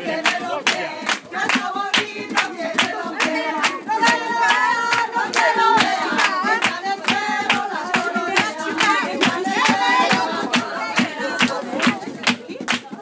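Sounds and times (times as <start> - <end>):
group singing: 0.0 - 13.0
rhythmic hand clapping: 0.0 - 13.0.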